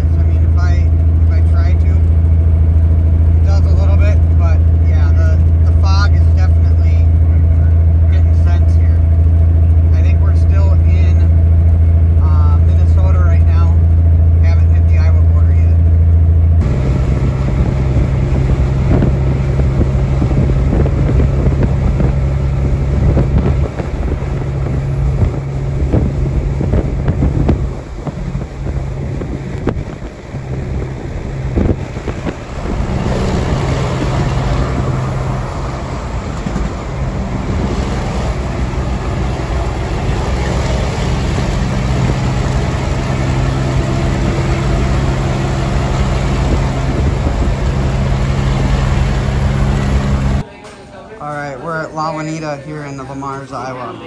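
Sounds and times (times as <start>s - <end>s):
road noise: 0.0s - 50.5s
truck engine drone: 0.0s - 50.5s.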